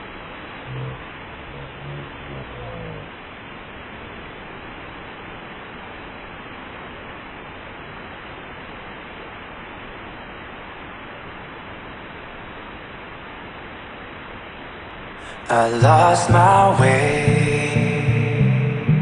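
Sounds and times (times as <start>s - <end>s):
waterfall rushing: 0.0s - 11.5s, 15.2s - 19.0s.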